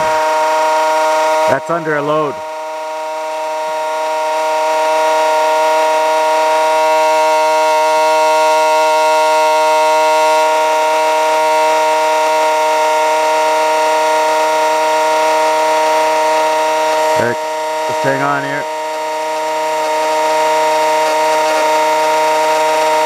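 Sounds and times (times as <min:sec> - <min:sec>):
motor-generator humming whine: 0:00.0 - 0:23.0.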